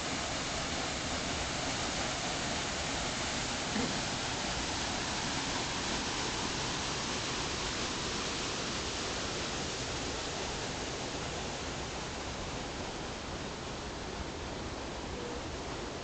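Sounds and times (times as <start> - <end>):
stream flowing over stones: 0.0 - 14.7.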